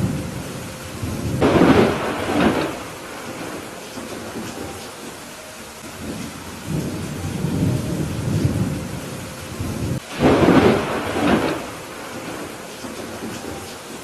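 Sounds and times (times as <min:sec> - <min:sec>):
rolling thunder: 0:00.0 - 0:14.0
steady rain: 0:00.0 - 0:14.0.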